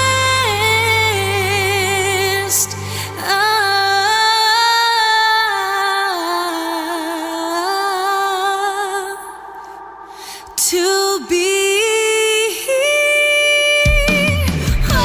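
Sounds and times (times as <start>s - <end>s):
woman singing slow worship song: 0.0s - 15.0s.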